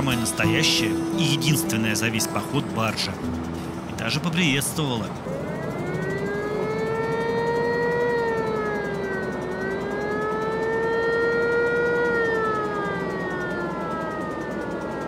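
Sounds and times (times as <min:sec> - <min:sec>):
tug siren wailing: 0:00.0 - 0:15.0.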